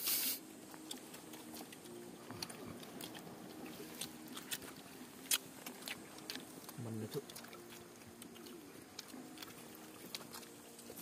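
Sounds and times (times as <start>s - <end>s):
people eating by hand: 0.0s - 11.0s.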